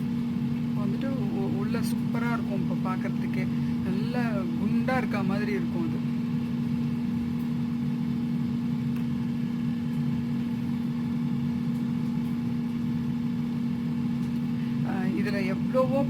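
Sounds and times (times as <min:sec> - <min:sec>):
air fryer fan hum: 0:00.0 - 0:16.0.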